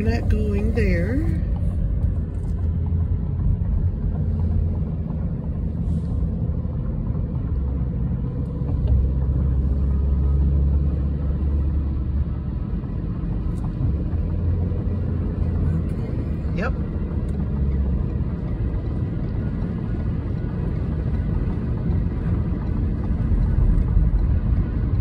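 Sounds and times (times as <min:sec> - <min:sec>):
car engine rumble inside cabin: 0:00.0 - 0:25.0
tyre road noise: 0:00.0 - 0:25.0.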